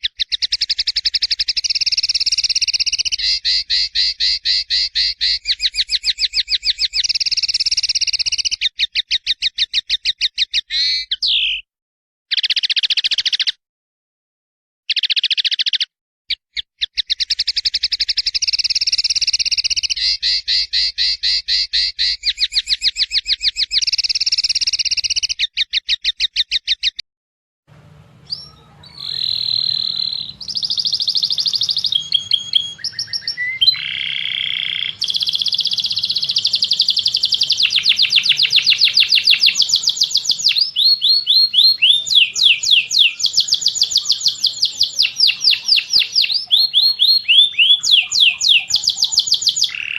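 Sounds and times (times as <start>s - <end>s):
songbird trills and whistles: 0.0s - 11.7s, 12.3s - 13.6s, 14.9s - 15.9s, 16.5s - 27.0s, 28.2s - 49.9s.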